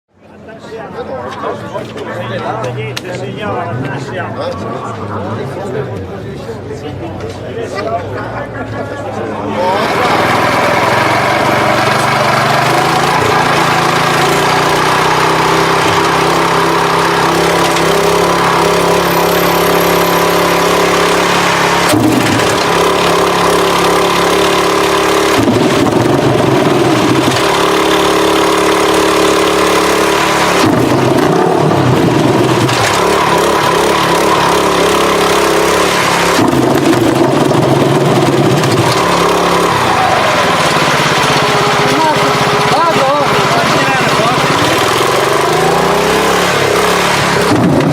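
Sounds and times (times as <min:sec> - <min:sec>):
motorcycle engine idling and revving: 0:09.0 - 0:47.9.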